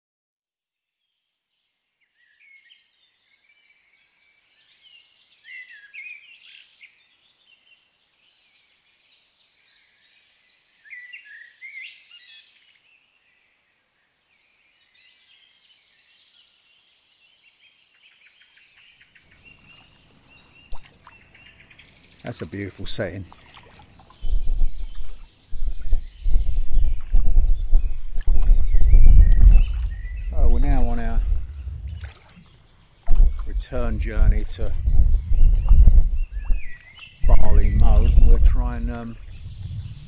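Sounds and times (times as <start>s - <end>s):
songbirds singing and chirping: 1.0s - 40.0s.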